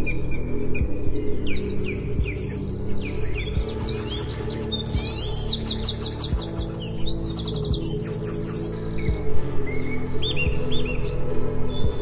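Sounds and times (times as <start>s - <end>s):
soft background music: 0.0s - 12.0s
songbirds chirping: 0.0s - 12.0s.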